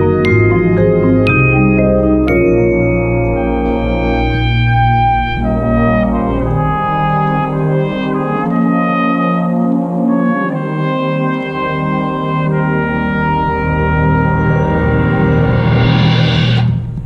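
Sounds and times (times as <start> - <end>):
low bass: 0.0 - 10.4, 11.6 - 17.0
brass hornline playing chords: 0.0 - 16.8.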